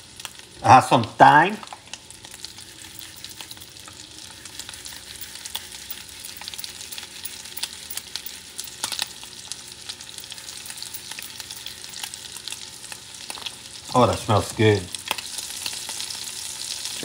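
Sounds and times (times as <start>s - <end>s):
shrimp sizzling in butter: 0.0s - 17.0s.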